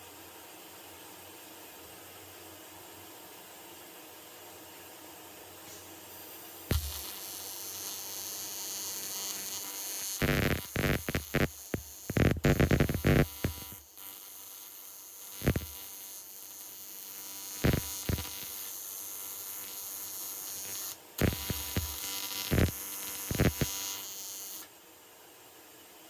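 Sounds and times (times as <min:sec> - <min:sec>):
welding arc buzzing with hiss: 0:00.0 - 0:24.8.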